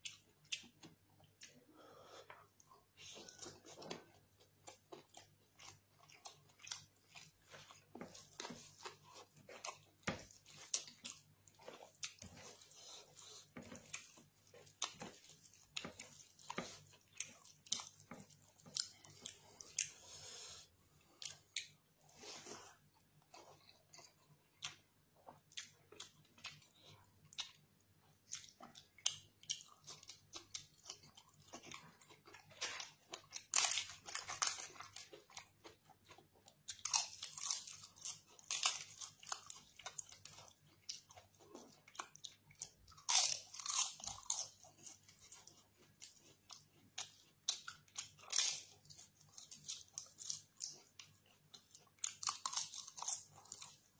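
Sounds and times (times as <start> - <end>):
man chewing and smacking lips: 0.0 - 53.9.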